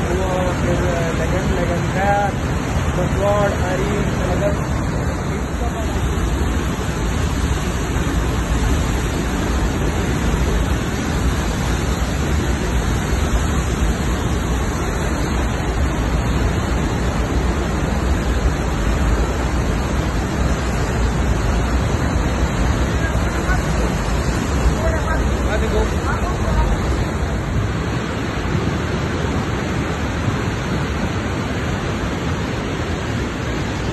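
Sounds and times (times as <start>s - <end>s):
river torrent rushing: 0.0s - 33.9s.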